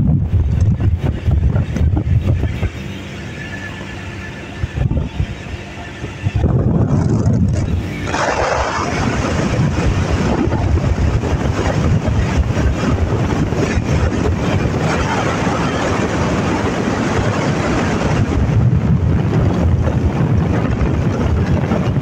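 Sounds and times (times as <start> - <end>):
motorbike engine and tyre noise: 0.0 - 22.0
wind buffeting microphone: 0.0 - 22.0.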